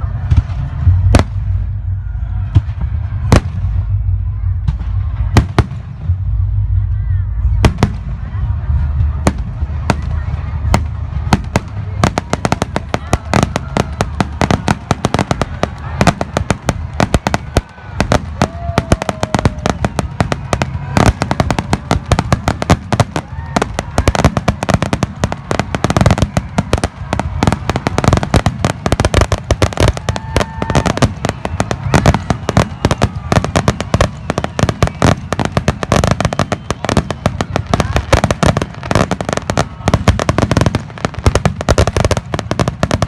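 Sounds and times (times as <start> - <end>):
fireworks and firecrackers banging: 0.0 - 6.8, 7.4 - 43.0.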